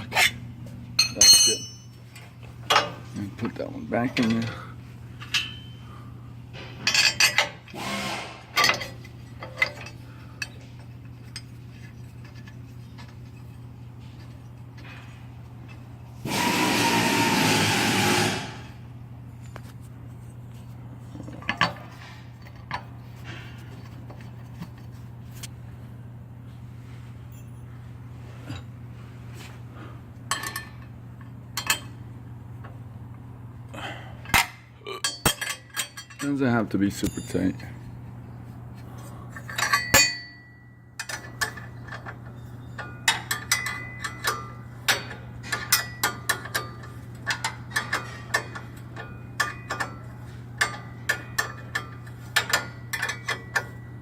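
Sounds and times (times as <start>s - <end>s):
metal tools clinking and scraping: 0.0s - 16.0s, 19.4s - 25.5s, 26.9s - 28.7s, 29.4s - 32.0s, 33.8s - 37.9s, 38.8s - 54.0s
steady low hum: 0.0s - 54.0s.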